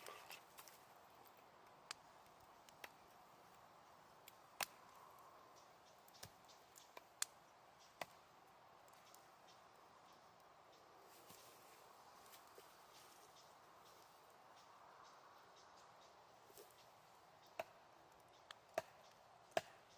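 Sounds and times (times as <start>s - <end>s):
wood fire crackling: 0.0s - 19.8s
faint steady hiss: 0.0s - 19.9s.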